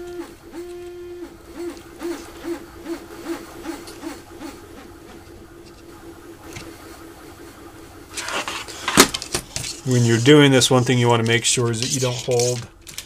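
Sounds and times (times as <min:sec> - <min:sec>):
small motor pulsing whine: 0:00.0 - 0:10.9
faint steady hum: 0:00.0 - 0:13.0.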